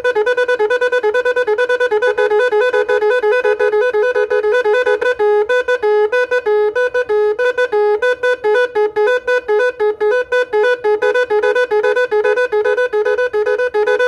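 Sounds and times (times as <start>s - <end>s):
electronic horn playing a tune: 0.0s - 14.0s.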